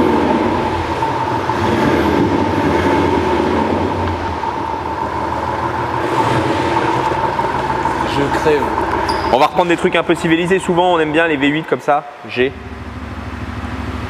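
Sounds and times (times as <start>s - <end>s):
synthetic engine idle sound: 0.0s - 14.0s.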